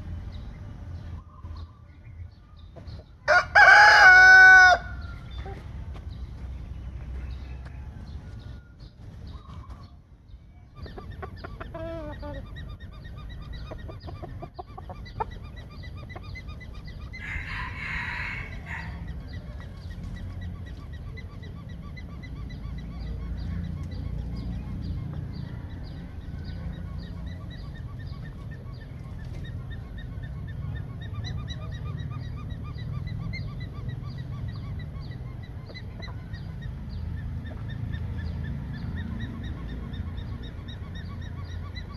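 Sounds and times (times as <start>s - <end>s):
farmyard birds calling: 0.0s - 41.9s.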